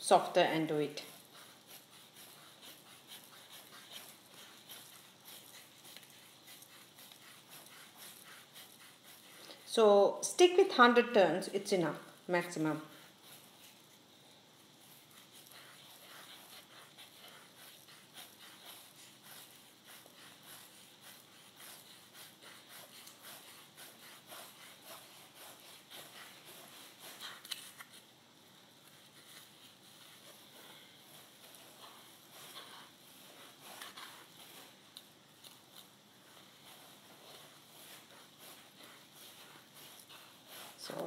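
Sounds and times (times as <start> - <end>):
yarn rustling over cardboard: 0.0 - 41.0.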